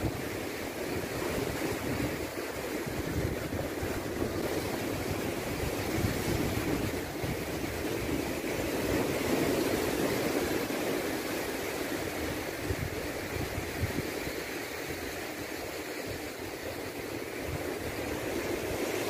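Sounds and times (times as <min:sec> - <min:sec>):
sea surf breaking on rocks: 0:00.0 - 0:19.0
wind buffeting microphone: 0:00.0 - 0:19.0.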